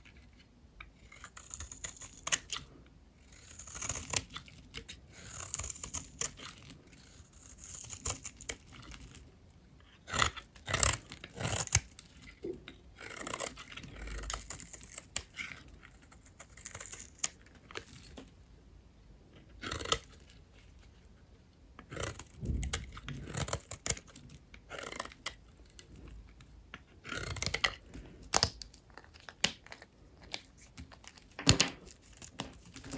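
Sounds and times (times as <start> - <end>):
blade cutting dry soap: 0.0 - 18.3, 19.2 - 32.9.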